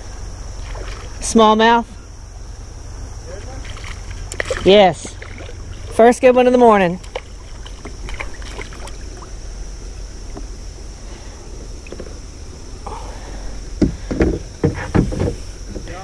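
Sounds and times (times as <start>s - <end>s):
low rumble and hiss: 0.0s - 16.0s
faint water splashes: 0.4s - 16.0s.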